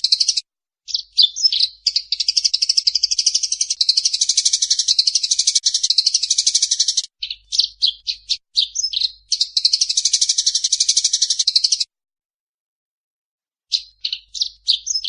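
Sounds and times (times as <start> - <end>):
sparrow chirps: 0.0 - 11.9, 13.7 - 15.0
sparrows chattering: 0.0 - 11.9, 13.7 - 15.0.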